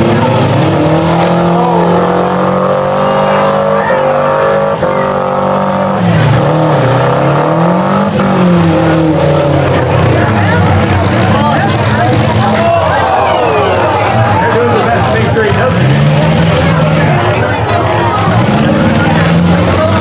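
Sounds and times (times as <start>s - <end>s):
car engines revving loudly: 0.0s - 20.0s.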